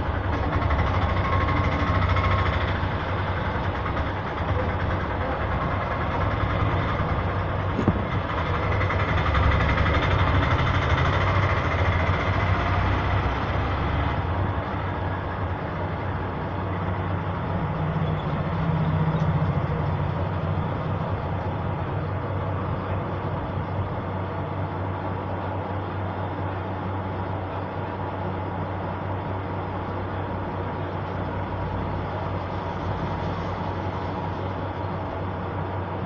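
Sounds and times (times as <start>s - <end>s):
low mechanical drone: 0.0s - 36.0s.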